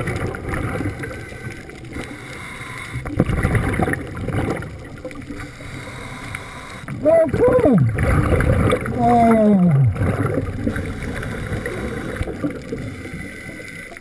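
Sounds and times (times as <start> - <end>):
bubbling exhaled air: 0.0 - 14.0
muffled underwater rumble: 0.0 - 14.0.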